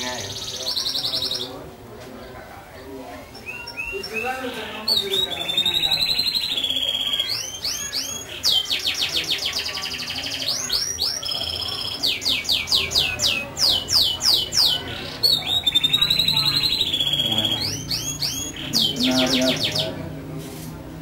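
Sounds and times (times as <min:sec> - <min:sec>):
canary singing: 0:00.0 - 0:01.7, 0:03.2 - 0:20.2.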